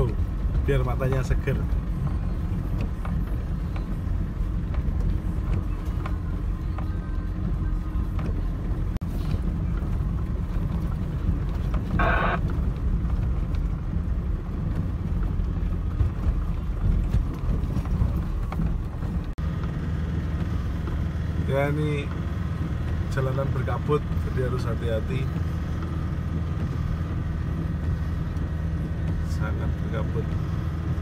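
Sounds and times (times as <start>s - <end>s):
pickup engine and tyres rumbling: 0.0s - 31.0s.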